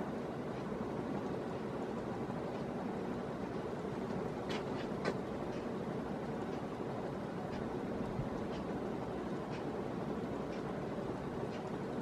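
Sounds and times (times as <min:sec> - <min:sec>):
ceiling fan running: 0:00.0 - 0:12.0.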